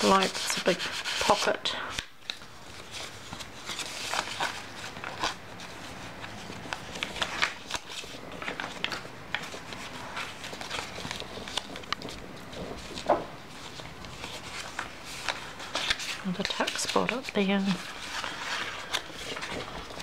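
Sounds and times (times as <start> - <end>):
paper pages rustling and crackling: 0.0 - 20.0.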